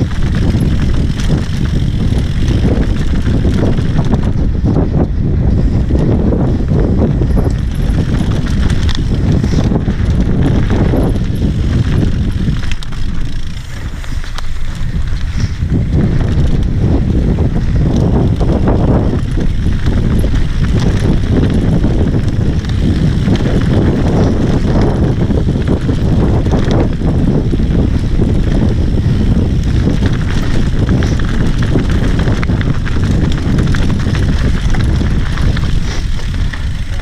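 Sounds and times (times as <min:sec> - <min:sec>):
tyres rolling over dirt: 0:00.0 - 0:04.4, 0:07.1 - 0:37.0
bike rattling and clicking: 0:00.0 - 0:37.0
wind rushing over microphone: 0:00.0 - 0:37.0.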